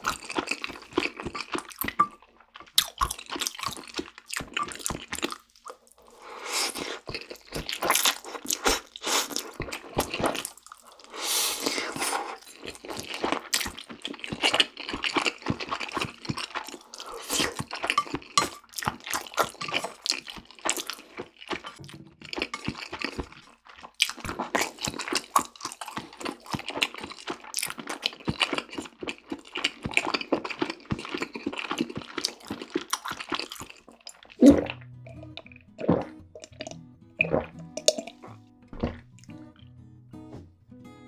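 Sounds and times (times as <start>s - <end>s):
close-miked chewing noodles: 0.0s - 39.4s.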